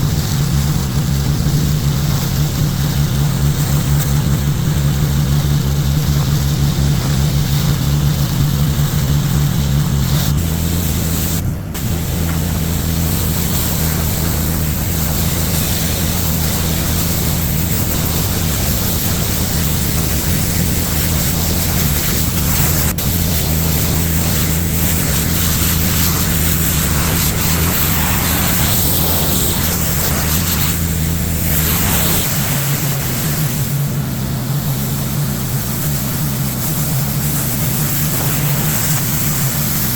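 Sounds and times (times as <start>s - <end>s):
pressure washer engine running: 0.0s - 39.9s
water spraying onto concrete: 0.0s - 39.9s.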